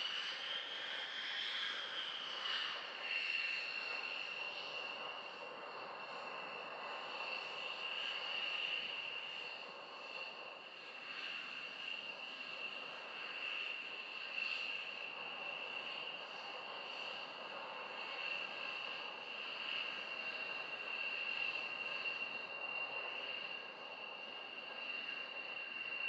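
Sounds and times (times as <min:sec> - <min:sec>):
distant jet engine whine: 0:00.0 - 0:26.0.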